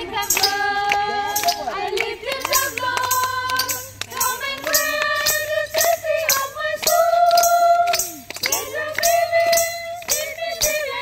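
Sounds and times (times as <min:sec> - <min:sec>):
tambourine jingles: 0:00.0 - 0:11.0
women singing together: 0:00.0 - 0:11.0
hand claps: 0:00.2 - 0:11.0.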